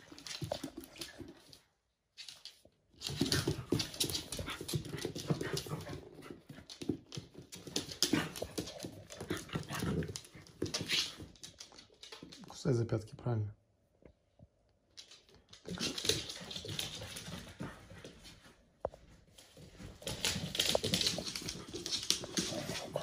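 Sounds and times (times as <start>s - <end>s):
claws scrabbling on wooden floor: 0.0s - 12.4s, 14.9s - 23.0s.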